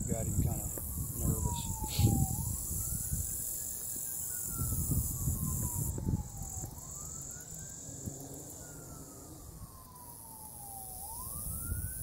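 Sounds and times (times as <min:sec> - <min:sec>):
distant siren wailing: 0:00.0 - 0:12.0
insects trilling: 0:00.0 - 0:12.0.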